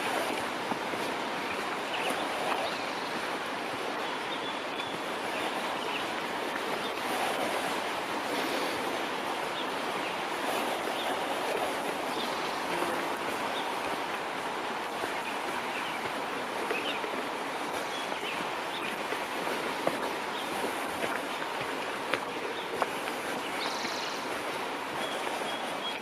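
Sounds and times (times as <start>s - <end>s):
flowing water rushing: 0.0s - 26.0s.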